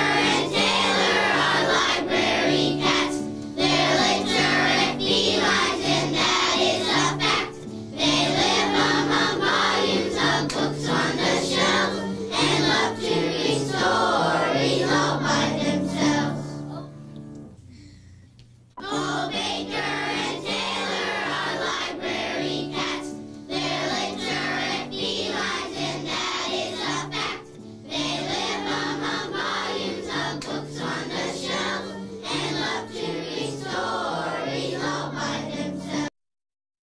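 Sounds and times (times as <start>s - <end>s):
children singing in unison: 0.0s - 16.8s, 18.8s - 36.1s.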